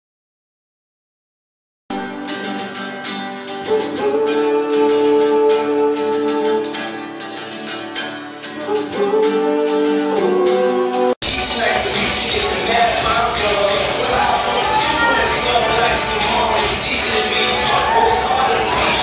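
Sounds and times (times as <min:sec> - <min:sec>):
acoustic guitar strumming: 0:01.9 - 0:19.0.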